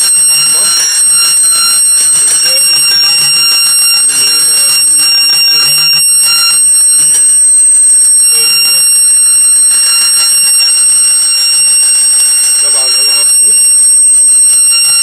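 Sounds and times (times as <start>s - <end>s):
fire alarm high-pitched tone: 0.0s - 15.0s.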